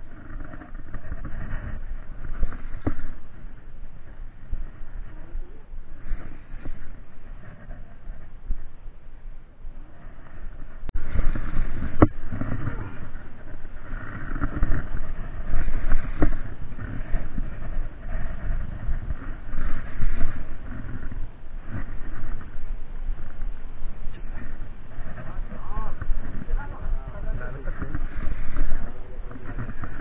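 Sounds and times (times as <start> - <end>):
wind and sea rushing: 0.0 - 30.0.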